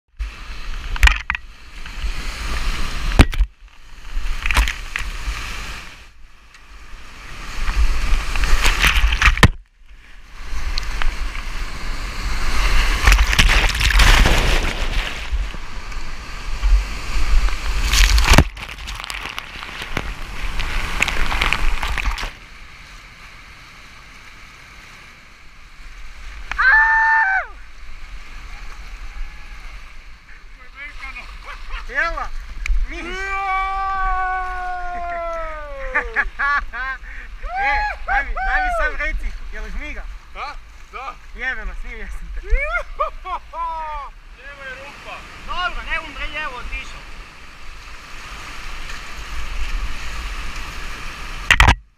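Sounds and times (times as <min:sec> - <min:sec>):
whitewater rushing and splashing: 0:00.2 - 0:51.8.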